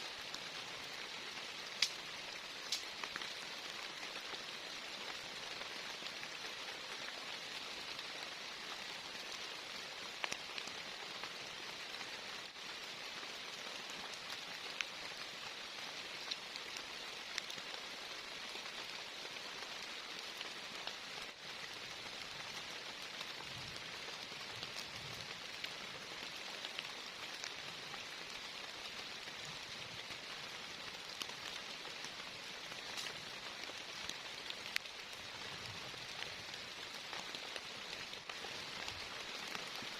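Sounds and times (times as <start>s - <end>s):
heavy rain hissing: 0.0s - 39.9s
raindrops pattering on surfaces: 0.0s - 39.9s.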